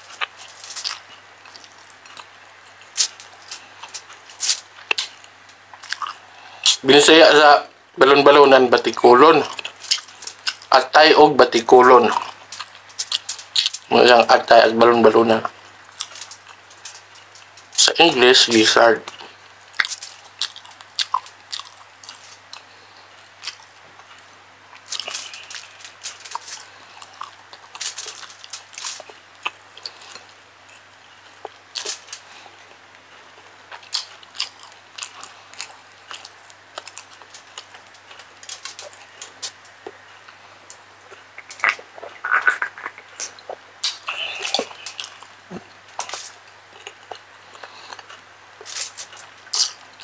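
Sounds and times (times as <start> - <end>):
wet chewing and crunching: 0.0 - 6.7, 8.8 - 11.0, 11.8 - 14.5, 15.4 - 18.2, 19.0 - 50.0.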